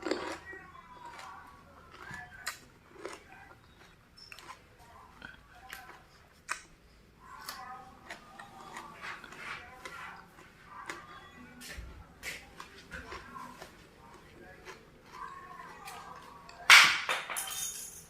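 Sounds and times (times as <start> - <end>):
crunching raw vegetables: 0.0 - 16.7
wet chewing: 0.0 - 16.7.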